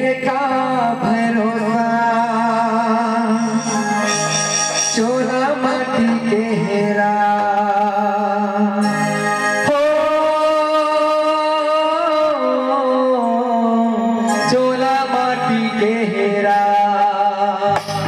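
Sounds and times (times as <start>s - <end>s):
man singing through microphone: 0.0s - 17.8s
electronic keyboard accompaniment: 0.0s - 18.0s.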